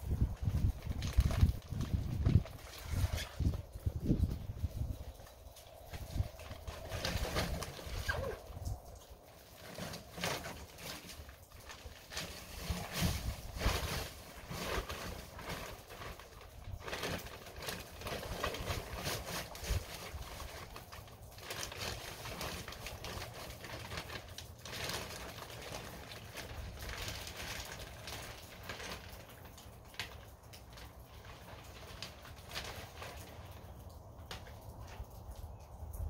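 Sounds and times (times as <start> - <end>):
dirt scooping and pouring: 0.0 - 36.0.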